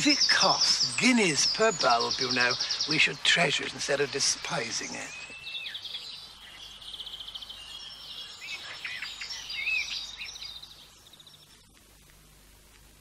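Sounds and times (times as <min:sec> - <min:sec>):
songbirds trilling and chirping: 0:00.0 - 0:13.0.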